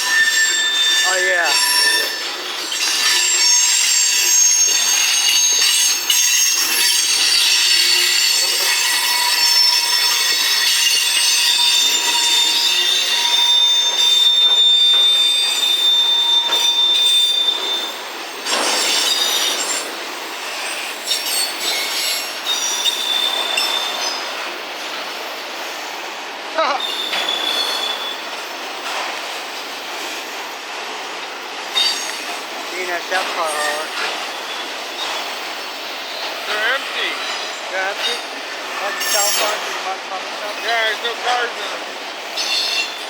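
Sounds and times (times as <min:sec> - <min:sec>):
train wheels squealing: 0:00.0 - 0:26.0, 0:26.8 - 0:43.0
rumble of freight train: 0:00.0 - 0:43.0.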